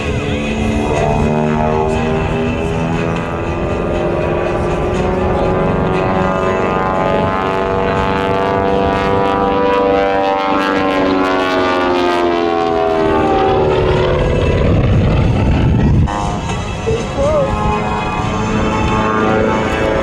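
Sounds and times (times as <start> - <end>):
propeller plane engine flyby: 0.0 - 20.0.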